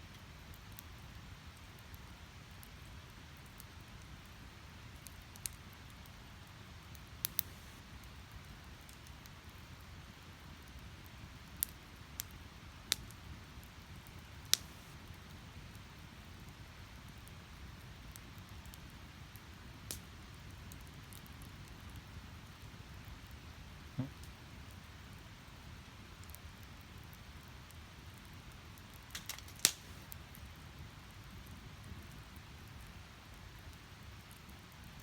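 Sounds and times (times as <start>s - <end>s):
low rumble of flames: 0.0s - 35.0s
fire popping and snapping: 0.1s - 35.0s
firewood crackling: 0.1s - 35.0s.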